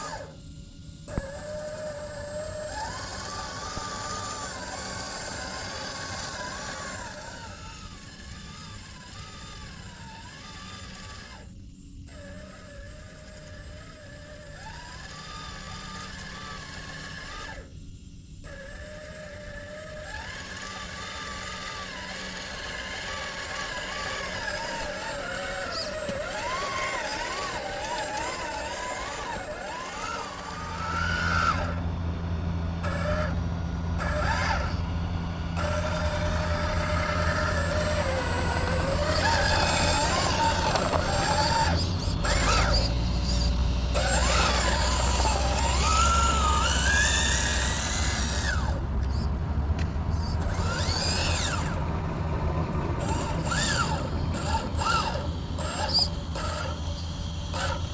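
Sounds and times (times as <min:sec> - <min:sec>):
small electric motor whining: 0:00.0 - 0:52.2, 0:52.9 - 0:57.9
steady low hum: 0:00.0 - 0:57.9.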